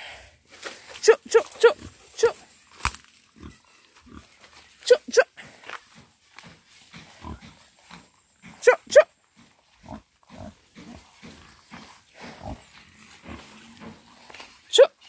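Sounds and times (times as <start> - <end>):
pigs grunting: 1.3 - 2.6, 3.2 - 6.1, 6.8 - 15.0.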